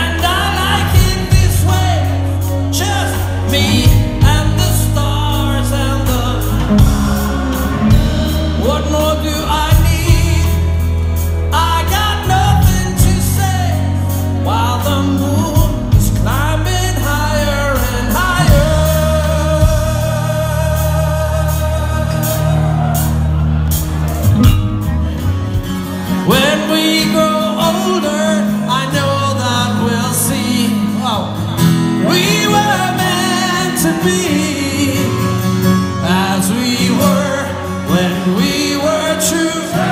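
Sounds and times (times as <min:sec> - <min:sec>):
person singing: 0:00.0 - 0:23.4, 0:26.0 - 0:39.9
electric bass: 0:00.0 - 0:38.6
drums: 0:00.0 - 0:39.9
guitars: 0:00.0 - 0:39.9.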